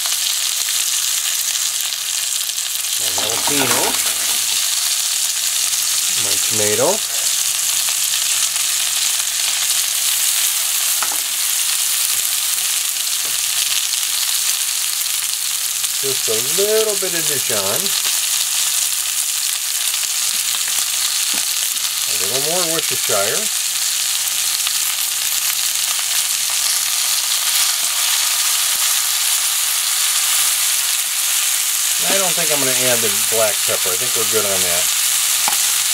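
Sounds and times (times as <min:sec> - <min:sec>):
steak sizzling in a frying pan: 0:00.0 - 0:35.9.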